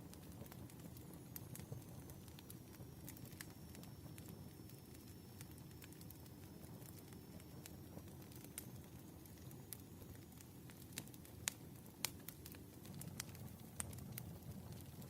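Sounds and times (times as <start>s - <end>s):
hiss of burning logs: 0.0s - 15.0s
wood fire crackling: 0.0s - 15.0s.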